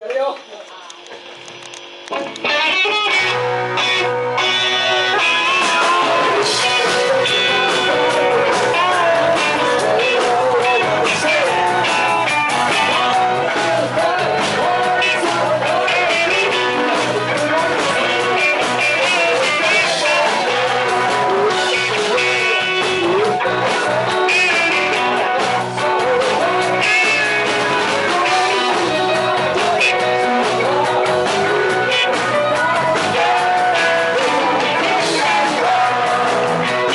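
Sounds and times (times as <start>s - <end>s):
rock and roll band: 2.1s - 36.9s
lead vocal singing: 2.6s - 36.9s.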